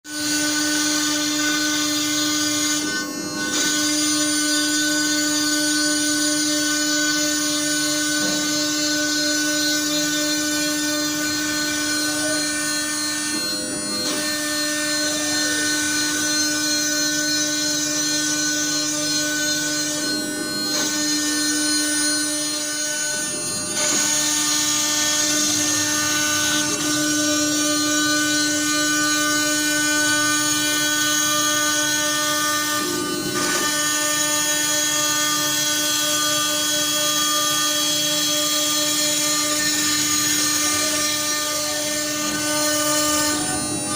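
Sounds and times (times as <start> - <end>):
milling router spindle whine: 0.1 - 43.9.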